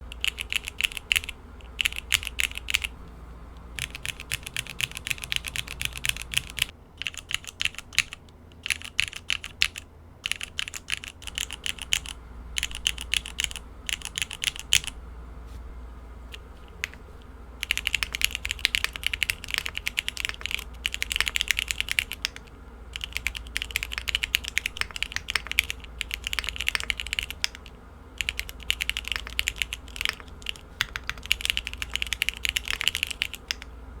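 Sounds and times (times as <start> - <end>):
mechanical keyboard typing: 0.1 - 3.0, 3.8 - 15.0, 17.6 - 33.7.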